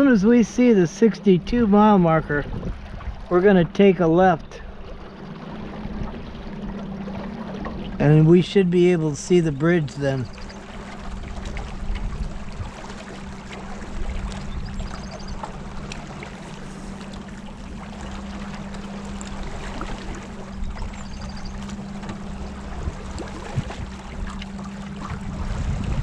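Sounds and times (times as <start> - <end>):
boat motor humming: 0.0 - 26.0
water splashing along hull: 0.0 - 26.0.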